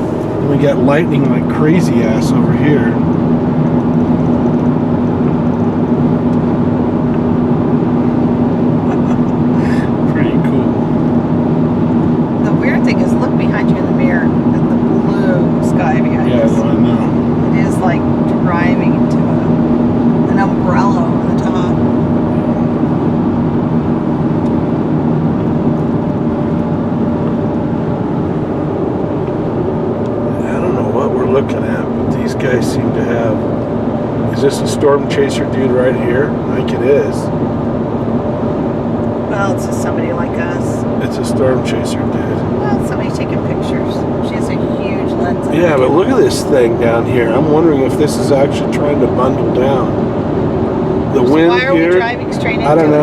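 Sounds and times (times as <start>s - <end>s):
car road and engine drone: 0.0s - 53.0s
low hum: 0.0s - 53.0s.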